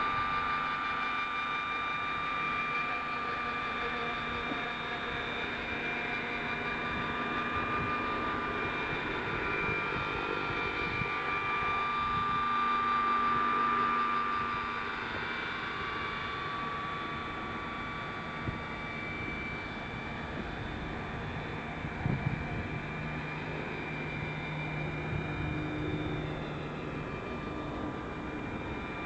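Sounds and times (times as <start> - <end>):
rc helicopter whine: 0.0 - 29.0.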